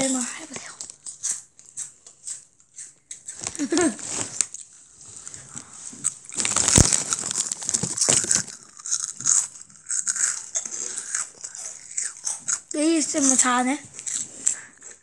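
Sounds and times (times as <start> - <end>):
crunchy snack being chewed: 0.6 - 15.0.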